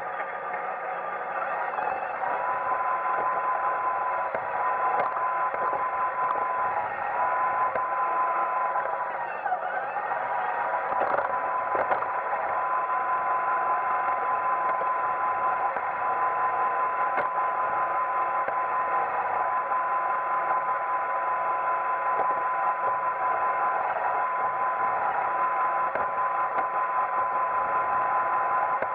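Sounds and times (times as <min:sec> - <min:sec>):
robot vacuum whirring: 0:00.0 - 0:28.9.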